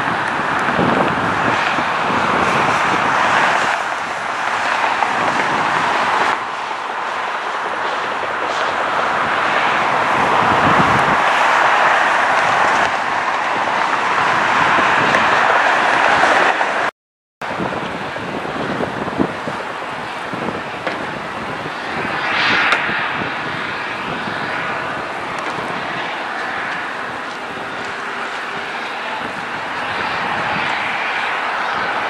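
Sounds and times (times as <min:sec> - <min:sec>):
jet engine rushing: 0:00.0 - 0:32.0.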